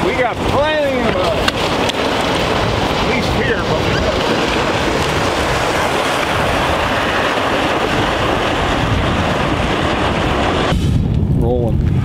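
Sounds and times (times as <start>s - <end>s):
plastic sled scraping on ice: 0.0s - 10.8s.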